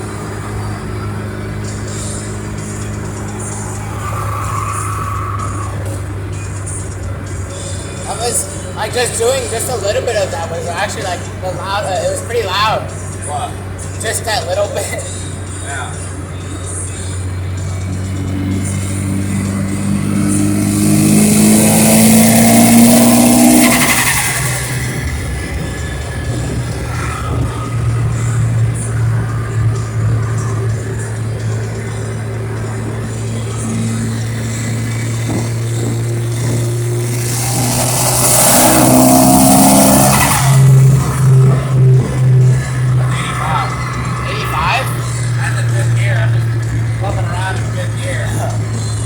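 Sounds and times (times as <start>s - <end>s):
turbo engine accelerating: 0.0s - 49.0s.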